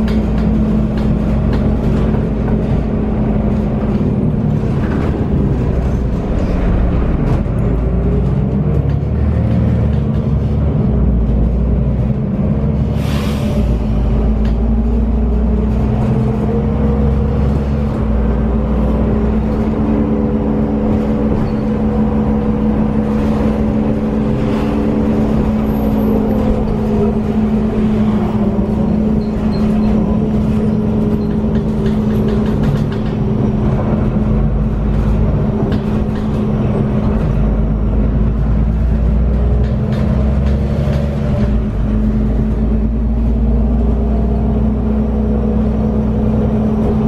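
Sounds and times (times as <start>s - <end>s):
bus engine drone: 0.0s - 47.0s.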